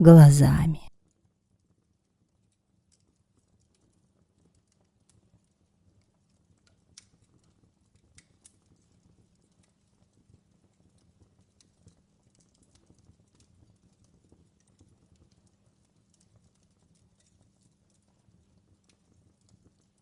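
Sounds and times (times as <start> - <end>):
faint wood fire crackling: 2.5 - 20.0.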